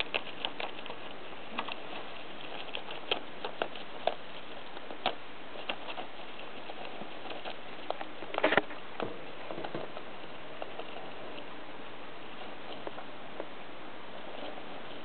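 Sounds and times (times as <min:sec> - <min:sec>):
hamster gnawing clingfilm: 0:00.0 - 0:13.5.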